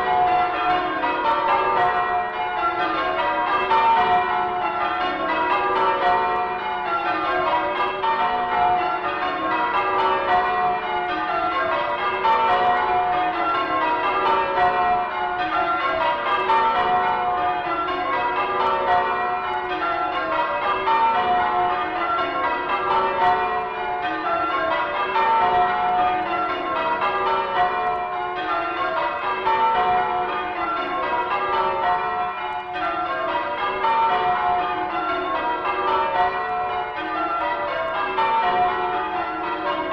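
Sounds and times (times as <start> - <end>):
church bells ringing changes: 0.0 - 39.9.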